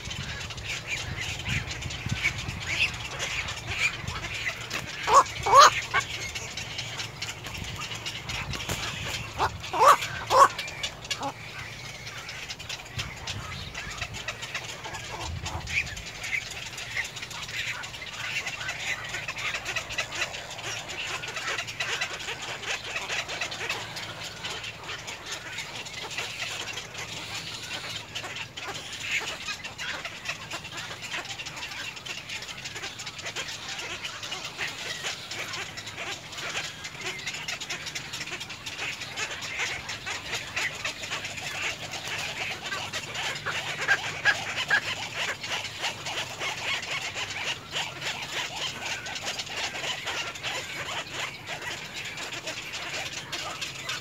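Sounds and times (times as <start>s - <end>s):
many birds chattering: 0.0s - 54.0s.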